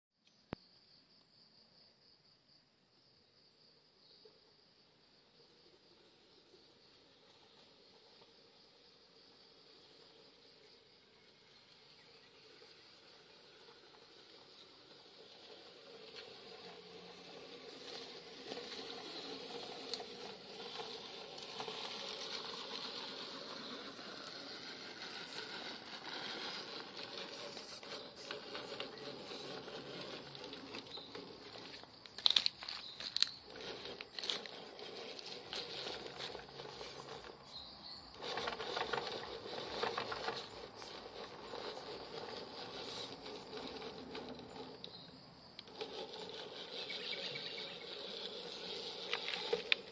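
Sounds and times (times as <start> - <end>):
rc car motor whirring: 4.9 - 49.9.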